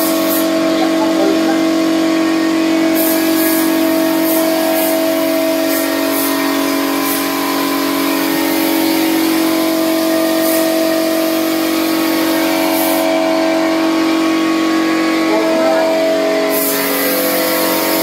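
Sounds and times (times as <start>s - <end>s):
spray gun hissing: 0.0s - 2.0s, 2.8s - 18.0s
air compressor humming: 0.0s - 18.0s.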